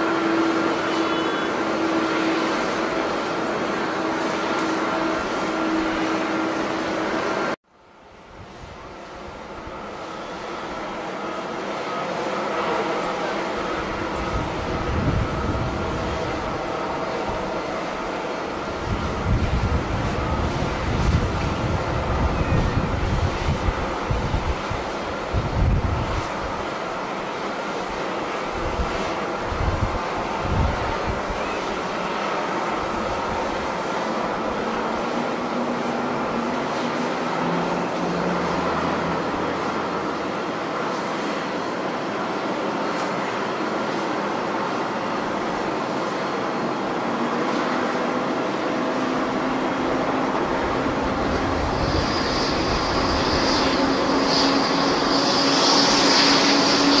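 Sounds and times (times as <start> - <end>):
jet engines rushing: 0.0 - 7.6, 8.2 - 57.0
high turbine whine: 0.0 - 57.0.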